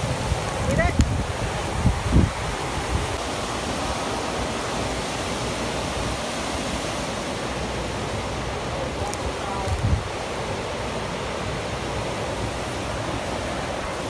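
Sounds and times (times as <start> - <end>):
heavy rain: 0.0 - 14.0
hurricane-force wind: 0.0 - 14.0.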